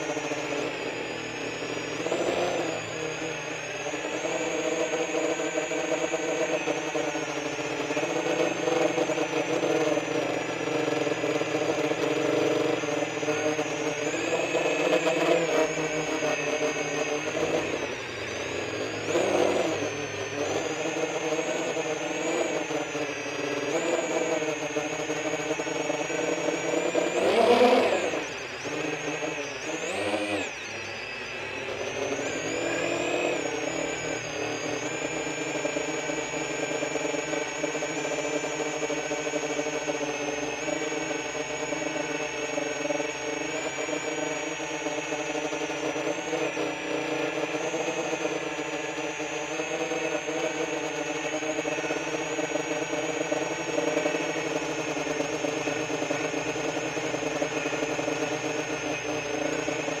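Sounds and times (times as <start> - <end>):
drone motors whining: 0.0 - 60.0.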